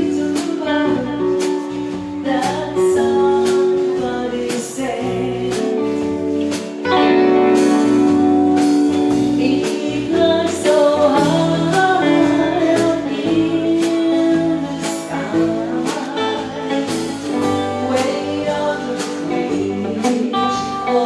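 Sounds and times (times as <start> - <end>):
bass guitar: 0.0 - 21.0
electric guitar: 0.0 - 21.0.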